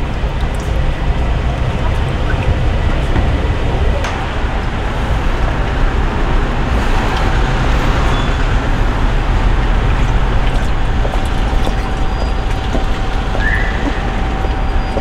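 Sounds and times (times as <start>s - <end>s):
loud rumbling: 0.0s - 15.0s.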